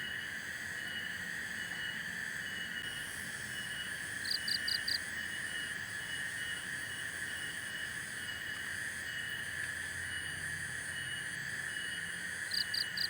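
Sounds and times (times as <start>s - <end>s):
insects and frogs trilling drone: 0.0s - 13.0s.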